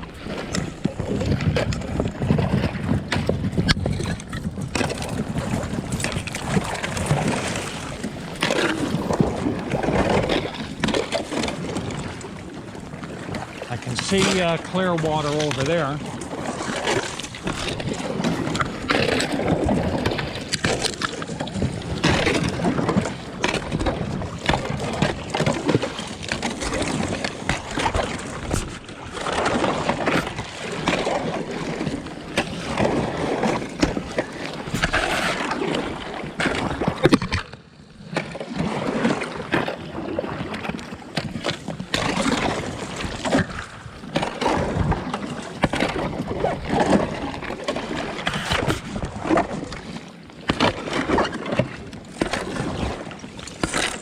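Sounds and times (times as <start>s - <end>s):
water sloshing from paddle strokes: 0.0s - 54.0s.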